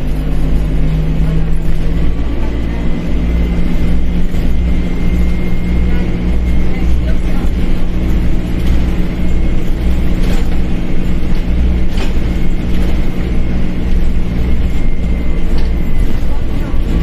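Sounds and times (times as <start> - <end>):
bus engine humming: 0.0 - 17.0.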